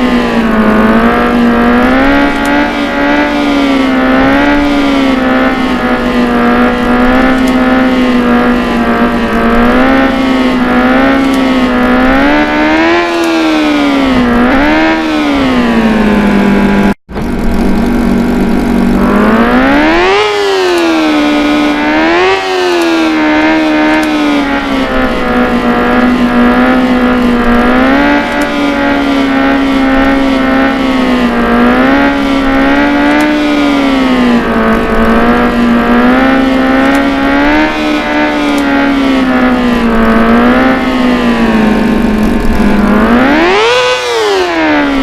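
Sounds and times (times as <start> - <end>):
motorcycle engine revving high: 0.0 - 45.0.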